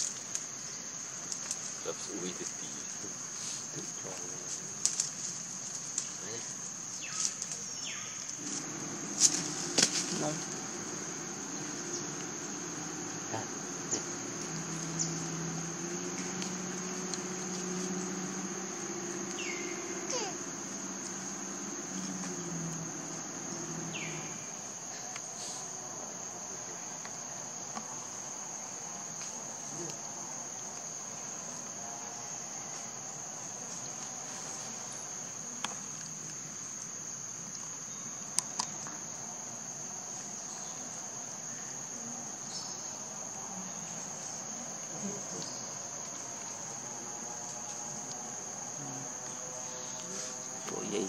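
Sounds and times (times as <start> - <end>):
insects droning: 0.0 - 51.0.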